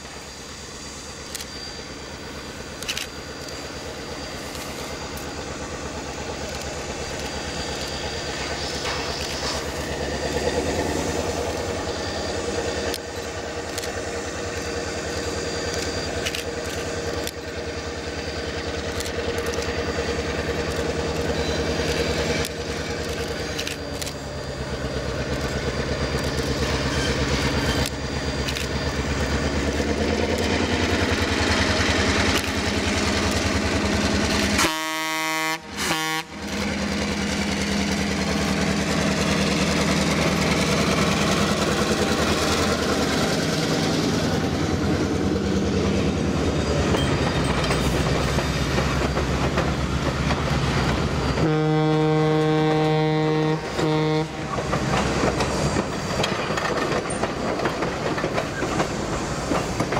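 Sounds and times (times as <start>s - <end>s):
diesel locomotive engine drone: 0.0s - 59.9s
steam hissing: 0.0s - 59.9s.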